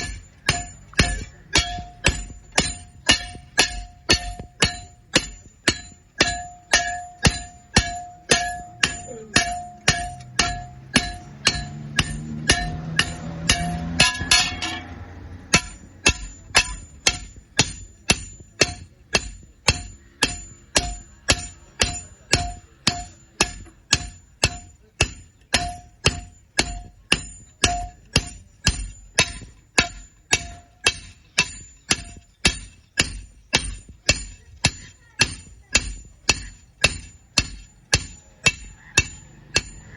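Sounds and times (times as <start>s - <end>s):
hammer striking iron: 0.0s - 39.9s.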